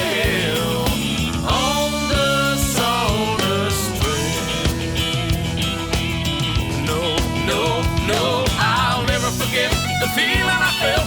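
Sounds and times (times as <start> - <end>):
country gospel band playing: 0.0 - 11.0
guitar: 0.0 - 11.0.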